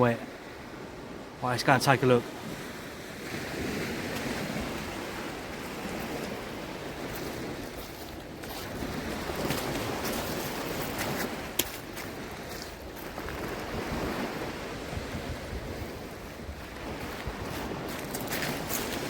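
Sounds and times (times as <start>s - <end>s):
shallow sea water sloshing: 2.2s - 19.0s
wind on microphone: 2.2s - 19.0s.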